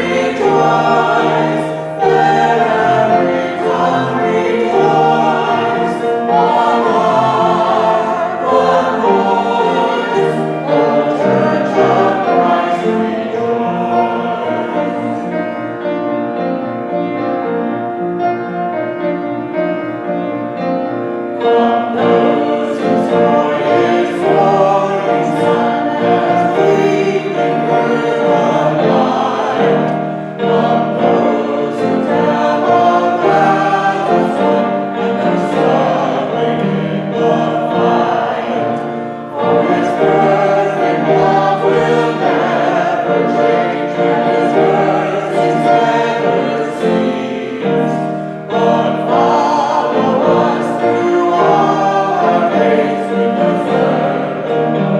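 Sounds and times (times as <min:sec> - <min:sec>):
group singing a worship song: 0:00.0 - 0:16.5, 0:21.0 - 0:54.9
musical accompaniment: 0:00.0 - 0:54.9.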